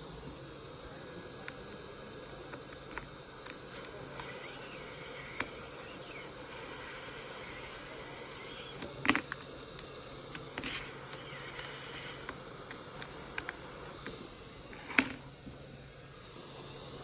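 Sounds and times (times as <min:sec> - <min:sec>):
heat gun fan drone: 0:00.0 - 0:17.0.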